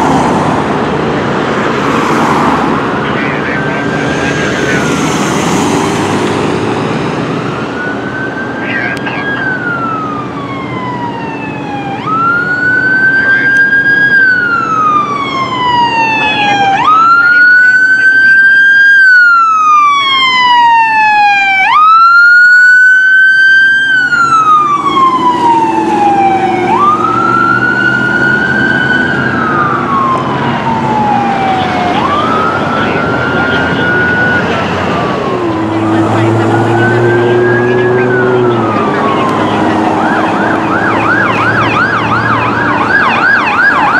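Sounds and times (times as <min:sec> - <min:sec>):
emergency siren wailing: 0:00.0 - 0:43.9
engine and road noise: 0:00.0 - 0:43.9.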